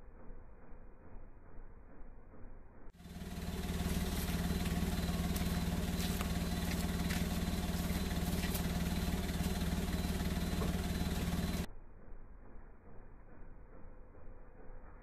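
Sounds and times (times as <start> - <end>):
car exhaust idling: 0.0 - 15.0.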